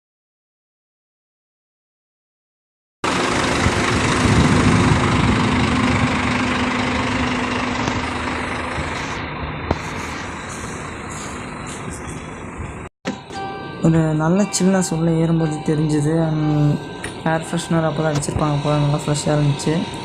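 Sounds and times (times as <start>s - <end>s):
bus engine idling: 3.0s - 20.0s
low hum: 3.1s - 20.0s.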